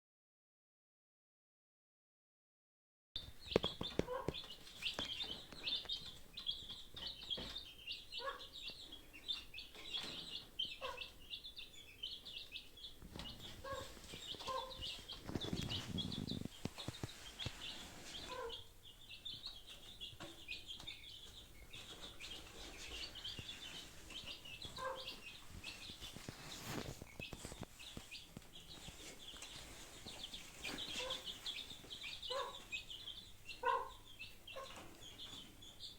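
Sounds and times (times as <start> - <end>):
chickens clucking: 3.2 - 35.9.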